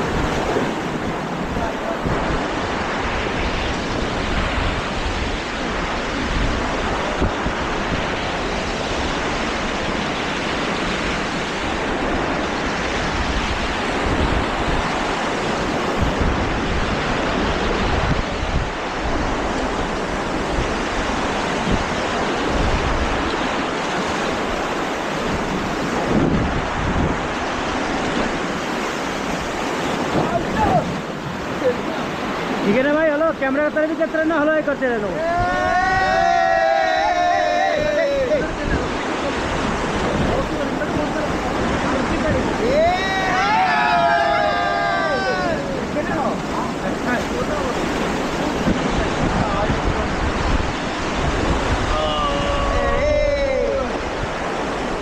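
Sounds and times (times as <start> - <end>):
wind buffeting microphone: 0.0 - 33.1, 34.7 - 55.0.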